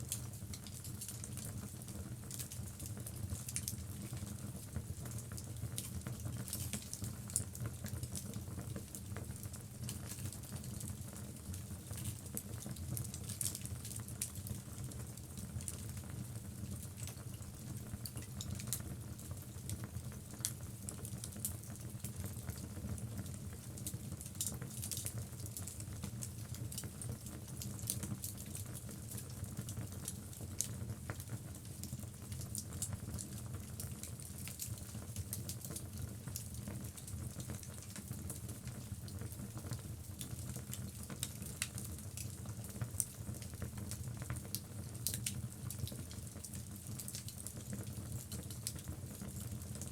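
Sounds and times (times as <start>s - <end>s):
wood fire crackling and popping: 0.1s - 49.9s.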